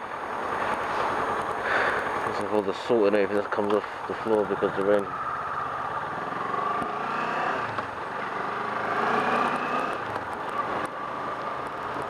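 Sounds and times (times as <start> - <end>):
motorcycle engine riding: 0.0 - 12.0.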